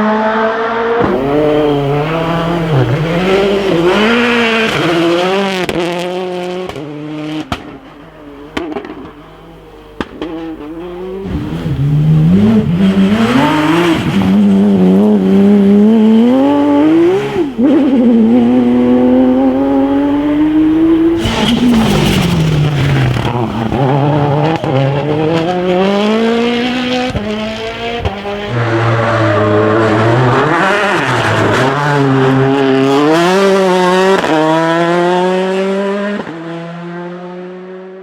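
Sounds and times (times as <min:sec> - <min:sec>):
rally car engine revving: 0:00.0 - 0:38.0.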